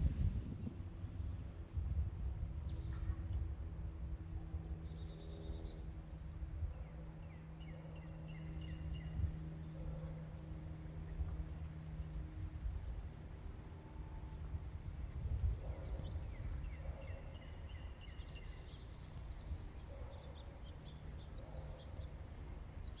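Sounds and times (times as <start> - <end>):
low wind rumble on microphone: 0.0 - 23.0
songbird singing: 0.4 - 23.0.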